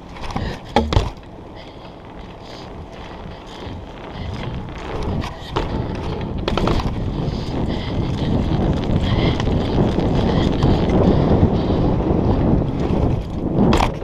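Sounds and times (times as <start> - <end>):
bike rolling over paving stones: 0.0 - 14.0
wind buffeting microphone: 0.0 - 14.0.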